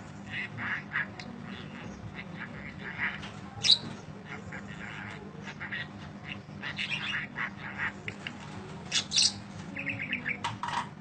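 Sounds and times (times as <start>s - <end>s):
budgerigar chirps and squawks: 0.2s - 10.4s.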